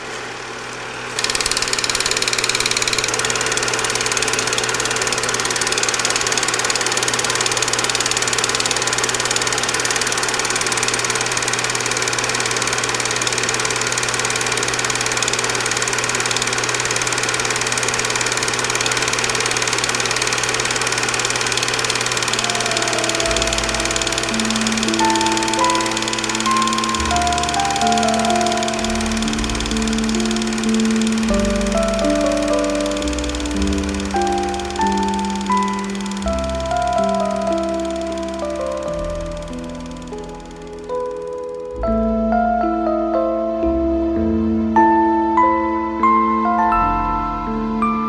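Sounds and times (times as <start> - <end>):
film projector whirring: 0.0 - 43.3.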